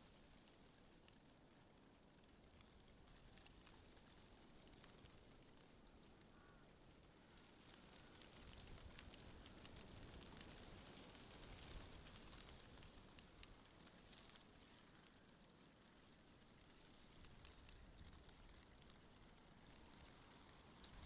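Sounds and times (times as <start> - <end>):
wind rustling leaves: 0.1 - 21.0.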